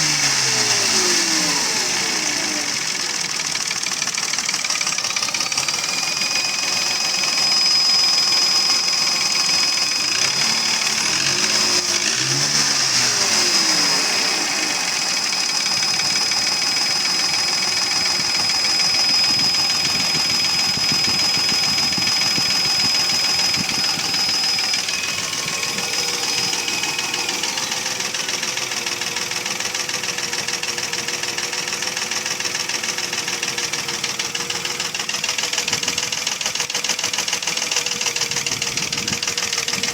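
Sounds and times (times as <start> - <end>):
engine running with rhythmic knocking: 0.0 - 39.9.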